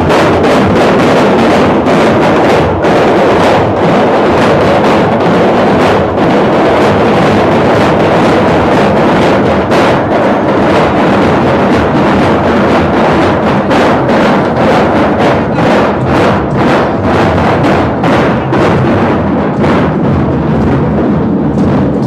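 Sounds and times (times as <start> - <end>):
bass drums beaten: 0.0 - 22.0.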